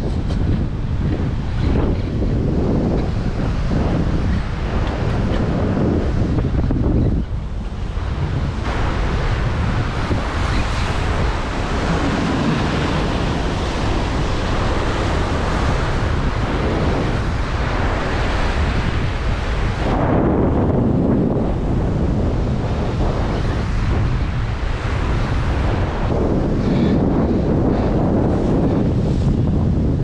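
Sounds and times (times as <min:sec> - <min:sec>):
sea surf washing over rocks: 0:00.0 - 0:30.0
wind buffeting microphone: 0:00.0 - 0:30.0.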